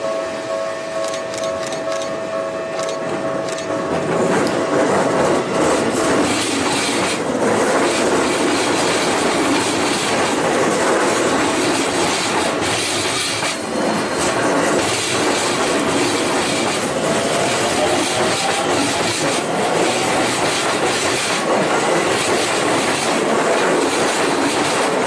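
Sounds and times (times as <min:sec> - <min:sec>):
train wheels rumbling on rail: 0:00.0 - 0:25.0
clacks at rail joints: 0:02.8 - 0:25.0.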